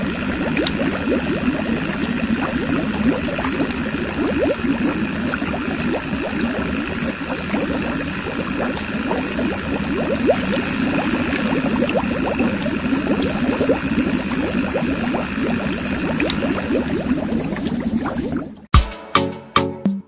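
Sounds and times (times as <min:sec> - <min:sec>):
water gurgling and splashing: 0:00.0 - 0:18.7
water pump motor running: 0:00.0 - 0:18.7.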